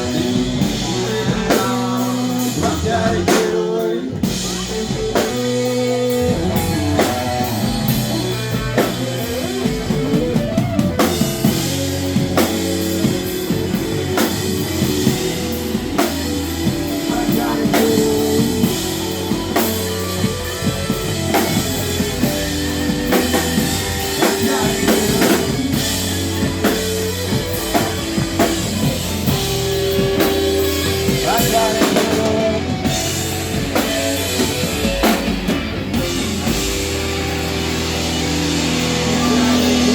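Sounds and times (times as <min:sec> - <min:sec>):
instrumental rock music: 0:00.0 - 0:39.9.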